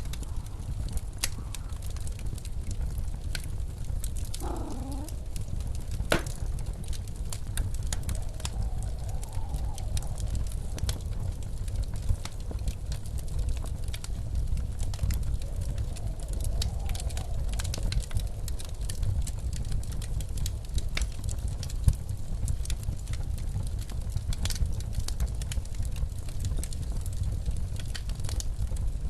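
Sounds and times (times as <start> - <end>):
faint wavering wind howl: 0.0 - 29.0
low rumble of wind: 0.0 - 29.0
wood fire crackling and popping: 0.0 - 29.0.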